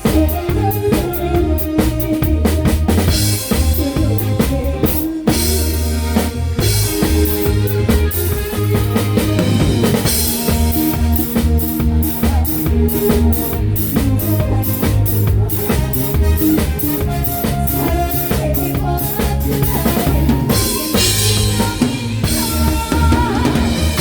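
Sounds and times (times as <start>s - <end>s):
drum kit with snare rimshots: 0.0s - 24.0s
live band playing: 0.0s - 24.0s.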